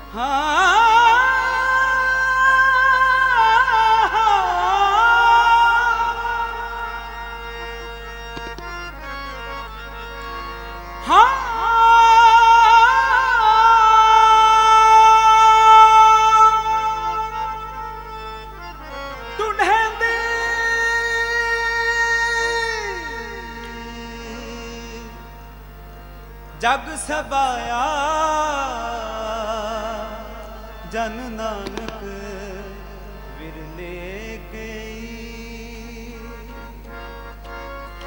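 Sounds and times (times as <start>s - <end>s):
harmonium tones: 0.0s - 38.0s
man singing long notes: 0.0s - 38.0s.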